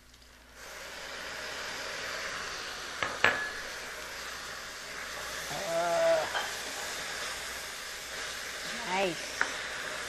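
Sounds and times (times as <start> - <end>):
vinegar sizzling in a pan: 0.0 - 10.0.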